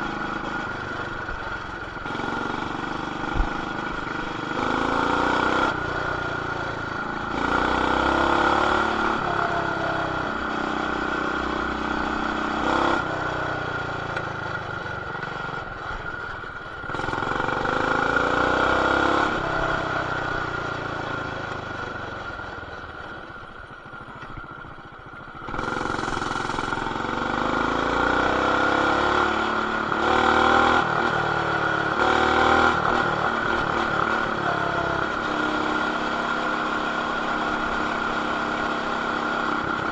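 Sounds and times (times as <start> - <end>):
muffled small motorbike engine: 0.0 - 39.9.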